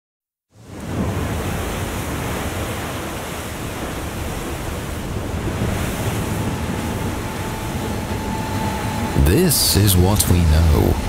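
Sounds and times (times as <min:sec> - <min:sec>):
heavy waves: 0:00.5 - 0:11.0
wind: 0:00.5 - 0:11.0.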